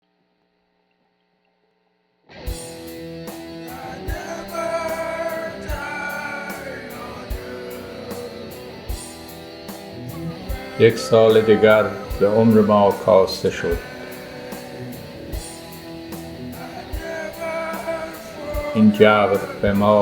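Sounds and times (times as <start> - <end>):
instrumental background music: 2.4 - 20.0.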